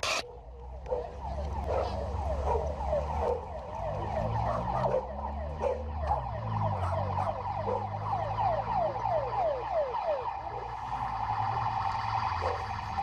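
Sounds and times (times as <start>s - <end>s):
siren in fast yelp: 0.9s - 13.0s.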